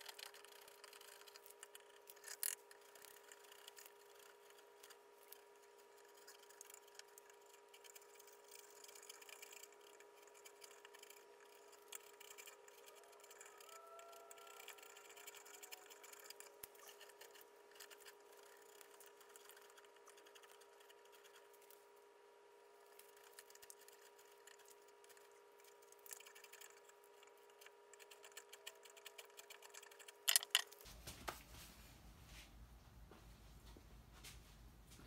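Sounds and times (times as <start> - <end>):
gouge chipping and scraping bark: 0.0 - 30.8
steady hum: 0.0 - 35.0.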